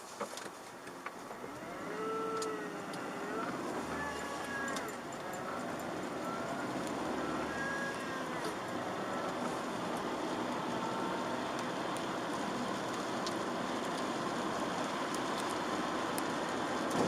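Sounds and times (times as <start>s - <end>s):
tyres on wet road and rain: 0.0s - 17.0s
faint engine hum: 0.5s - 17.0s.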